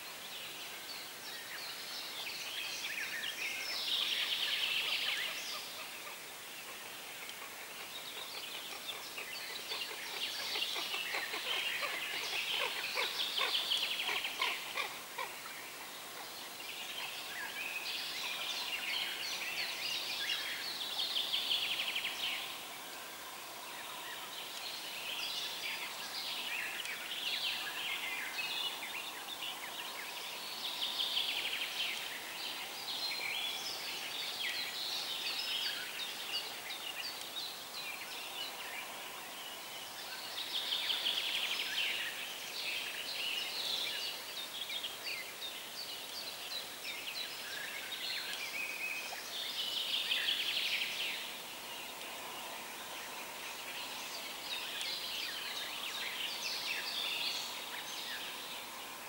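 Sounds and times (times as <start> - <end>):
river water hiss: 0.0 - 59.0
songbirds singing: 0.0 - 59.0.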